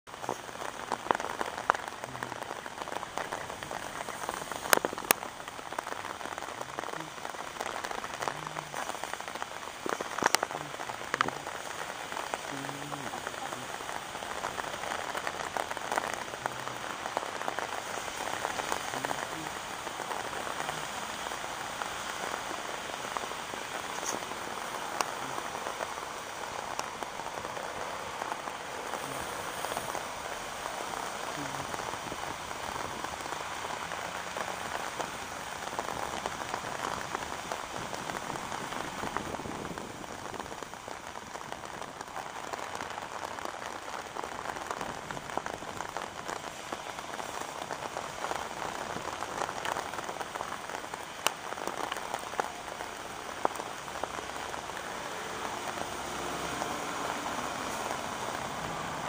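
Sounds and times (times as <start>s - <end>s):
rain falling on pond: 0.0s - 59.0s.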